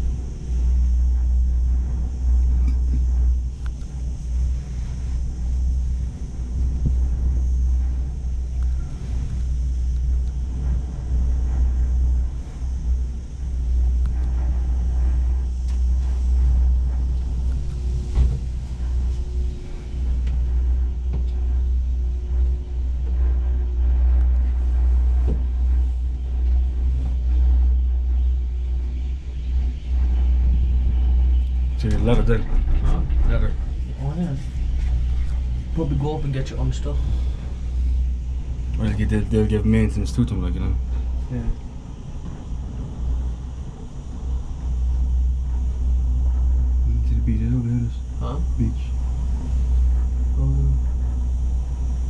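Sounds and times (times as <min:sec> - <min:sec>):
cable car low rumble: 0:00.0 - 0:52.0
faint steady hum: 0:00.0 - 0:52.0.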